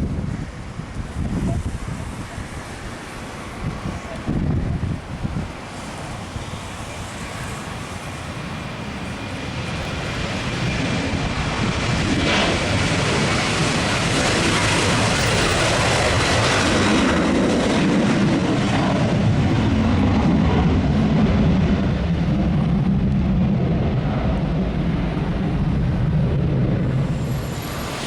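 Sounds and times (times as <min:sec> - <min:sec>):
airliner engines rumbling: 0:00.0 - 0:28.0.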